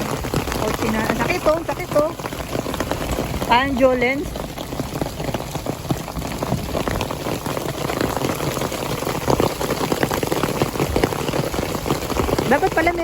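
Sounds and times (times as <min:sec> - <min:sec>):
hail pelting down: 0:00.0 - 0:13.0
heavy rain: 0:00.0 - 0:13.0.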